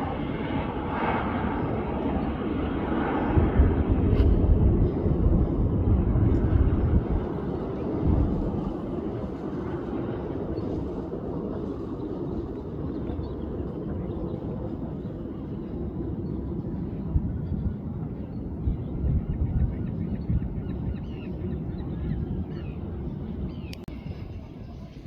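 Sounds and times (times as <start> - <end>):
aircraft engine noise: 0.0 - 25.0.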